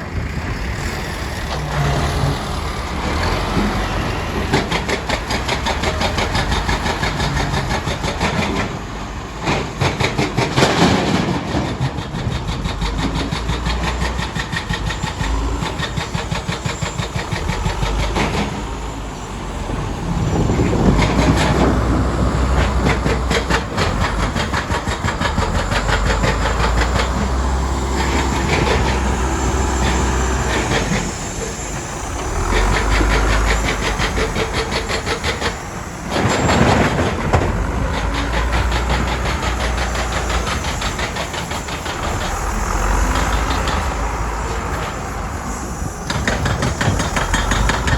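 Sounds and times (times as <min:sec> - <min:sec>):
earthmoving machine diesel engine: 0:00.0 - 0:47.9.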